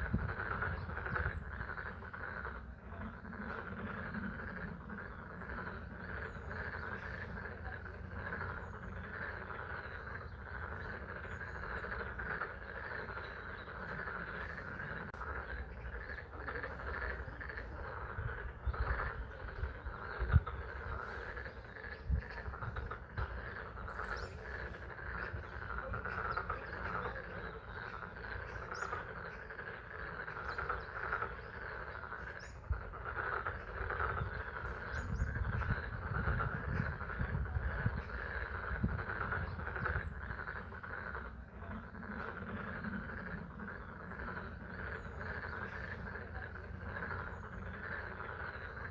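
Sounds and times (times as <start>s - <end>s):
frogs calling: 0.0s - 48.9s.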